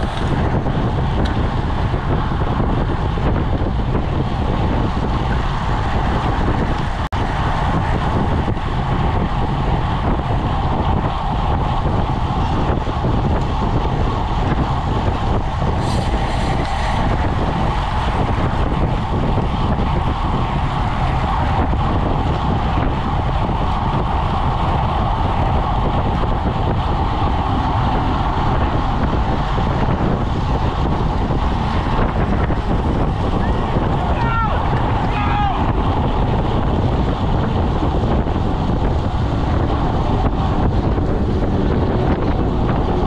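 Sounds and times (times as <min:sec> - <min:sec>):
tyres humming on asphalt: 0:00.0 - 0:43.0
wind buffeting microphone: 0:00.0 - 0:43.0.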